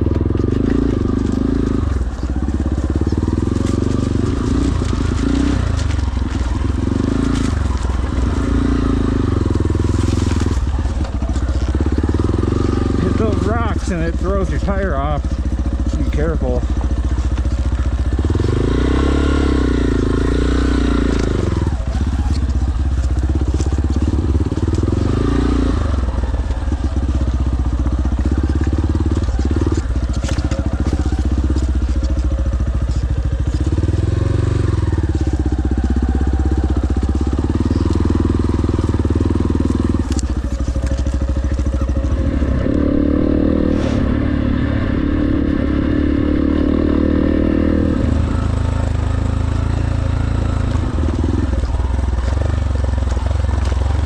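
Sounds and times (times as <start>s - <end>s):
dirt bike engine: 0.0s - 54.0s.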